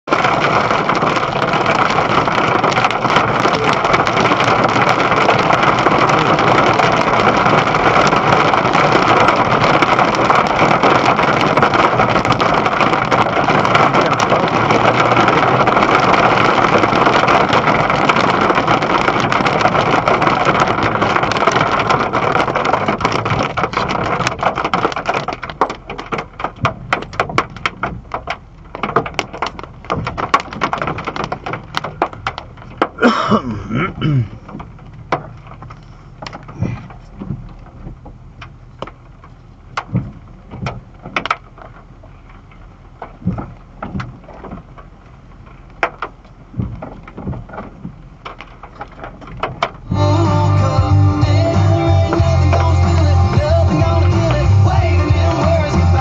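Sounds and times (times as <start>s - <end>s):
hail and rain on a truck: 0.0s - 56.0s.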